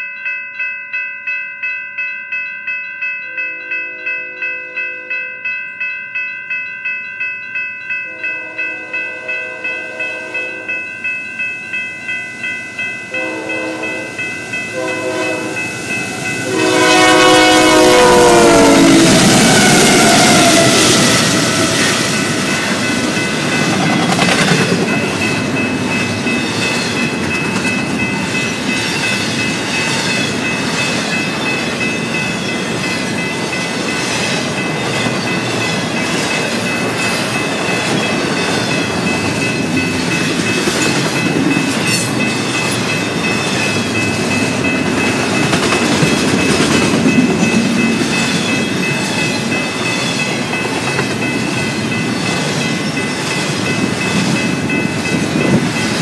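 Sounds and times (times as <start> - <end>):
freight train wheels rumbling: 8.0 - 56.0.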